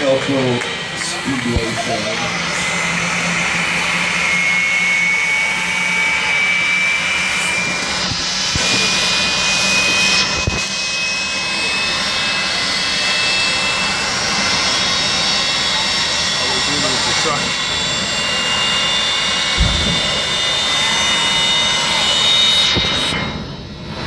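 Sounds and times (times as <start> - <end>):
jet engine roaring with whine: 0.0 - 24.0.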